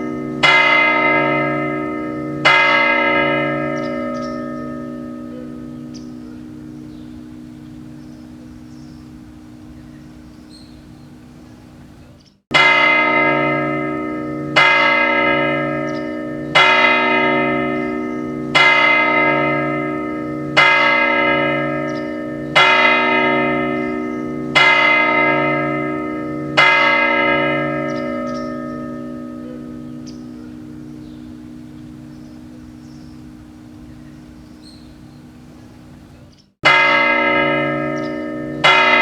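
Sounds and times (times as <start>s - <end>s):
clock bell striking: 0.0s - 9.7s, 12.5s - 34.4s, 36.6s - 39.0s.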